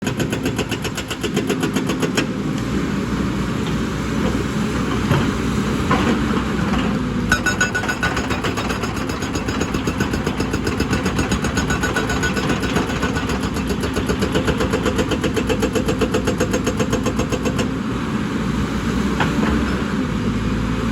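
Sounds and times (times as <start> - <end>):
excavator diesel engine running: 0.2 - 20.9.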